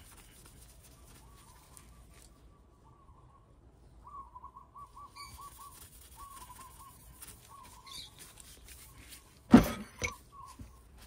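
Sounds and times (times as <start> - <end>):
bird calling: 0.9 - 11.0.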